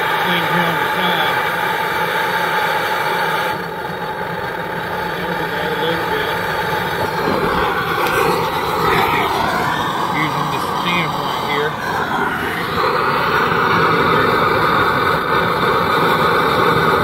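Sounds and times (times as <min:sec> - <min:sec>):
stove flame hissing: 0:00.0 - 0:17.0.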